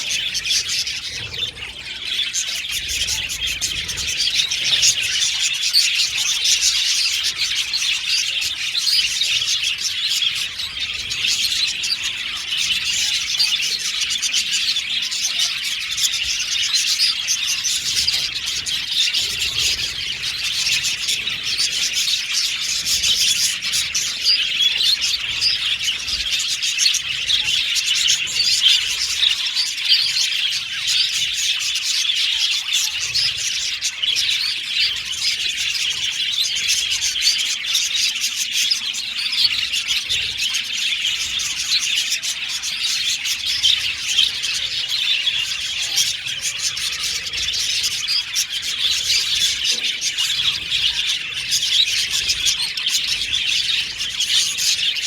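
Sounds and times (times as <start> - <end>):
budgerigars chattering and warbling: 0.0 - 55.0.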